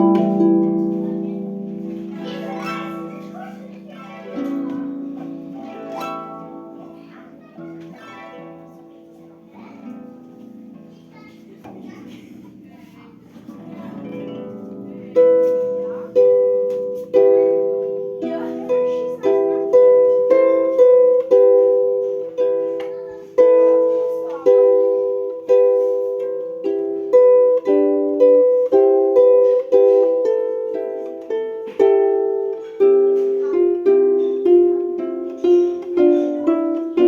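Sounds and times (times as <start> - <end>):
plucked string instrument melody: 0.0 - 37.0.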